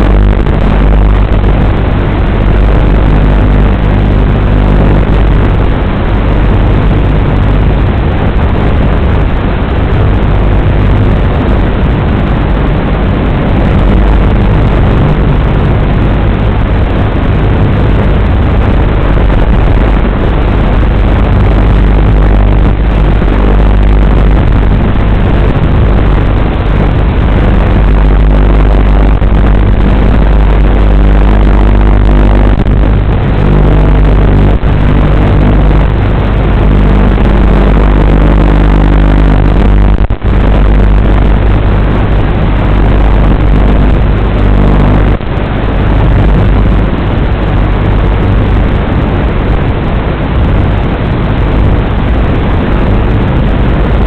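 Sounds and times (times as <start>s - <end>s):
tyre and wind noise: 0.0s - 54.0s.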